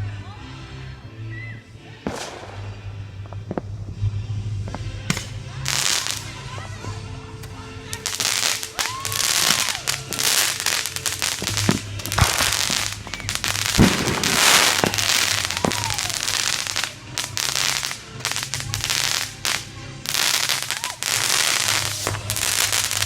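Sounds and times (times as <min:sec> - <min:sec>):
whistling fireworks: 0:02.0 - 0:06.4, 0:07.9 - 0:23.0
fireworks bangs and crackling: 0:02.0 - 0:06.5, 0:07.4 - 0:23.0.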